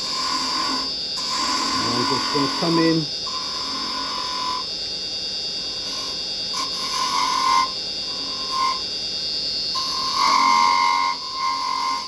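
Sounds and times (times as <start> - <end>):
chisel cutting spinning wood: 0.0 - 4.7, 5.6 - 8.9, 9.7 - 12.0
wood lathe whining: 0.0 - 4.7, 5.5 - 9.0, 9.7 - 12.0.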